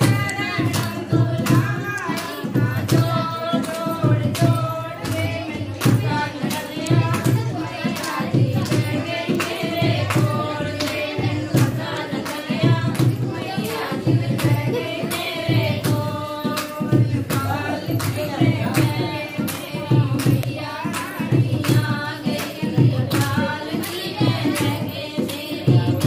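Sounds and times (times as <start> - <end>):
hands clapping to a beat: 0.0 - 26.0
women singing devotional song: 0.0 - 26.0.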